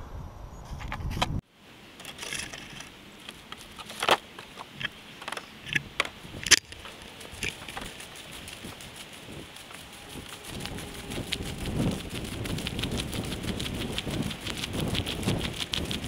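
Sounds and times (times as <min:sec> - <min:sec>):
plastic jug crackling and crunching: 0:02.0 - 0:16.0.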